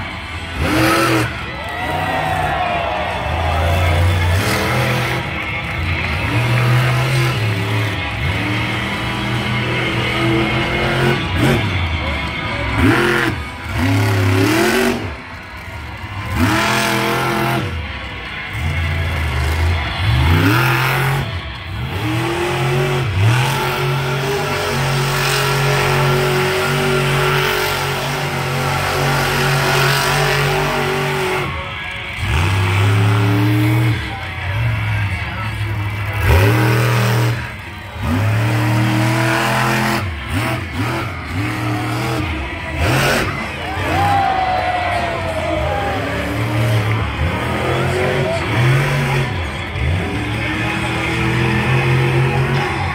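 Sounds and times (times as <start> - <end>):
truck engine revving: 0.0 - 52.9.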